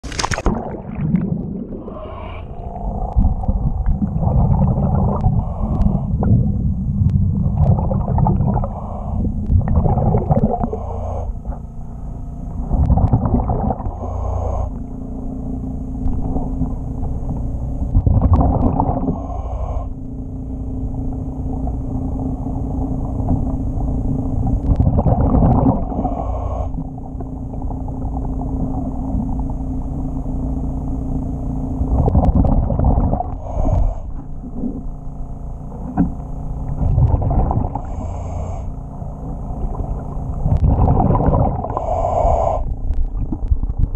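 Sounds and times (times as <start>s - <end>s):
underwater exhaled bubbles: 0.0s - 11.8s, 12.5s - 30.8s, 31.7s - 43.9s
steady low hum: 0.0s - 43.9s.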